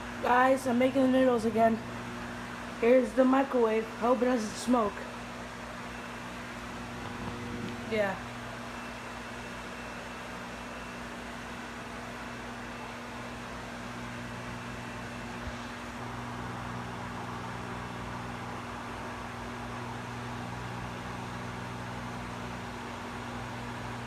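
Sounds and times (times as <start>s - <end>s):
microwave oven humming: 0.0s - 24.0s.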